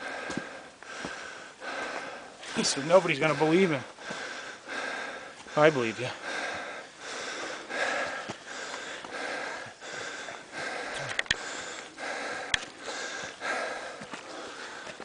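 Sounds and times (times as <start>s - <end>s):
heavy fast breathing: 0.0s - 15.0s.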